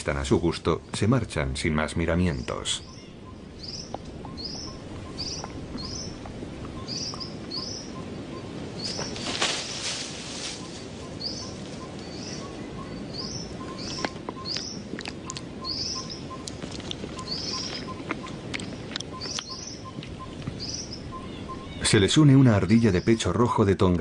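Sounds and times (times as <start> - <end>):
bird chirping: 0.0 - 9.5, 10.5 - 23.5
outdoor background noise: 0.0 - 24.0.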